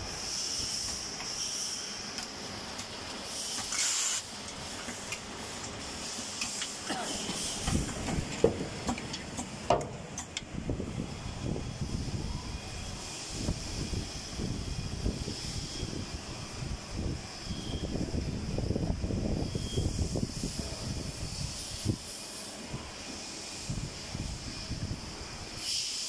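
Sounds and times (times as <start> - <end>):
coolant spraying hiss: 0.0 - 26.0.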